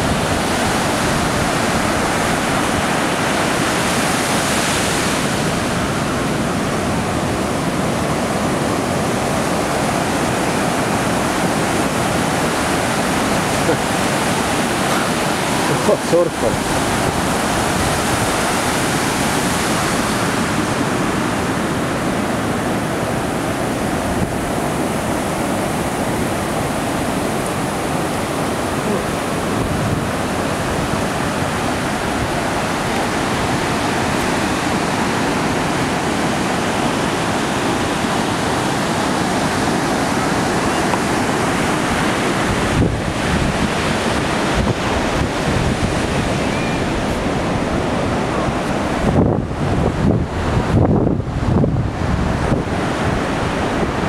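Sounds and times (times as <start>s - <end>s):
surf breaking on a beach: 0.0s - 54.0s
wind buffeting the microphone: 0.0s - 54.0s.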